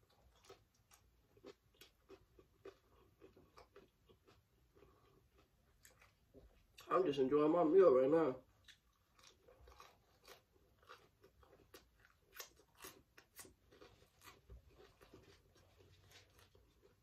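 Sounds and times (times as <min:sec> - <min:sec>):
crunchy chewing: 0:00.0 - 0:06.9, 0:08.5 - 0:17.0.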